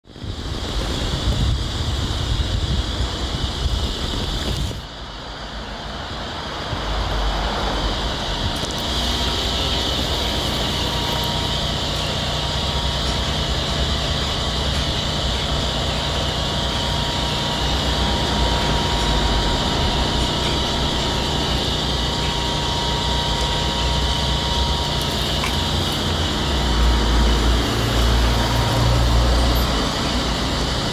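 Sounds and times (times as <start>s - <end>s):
diesel engine idling: 4.9s - 30.9s.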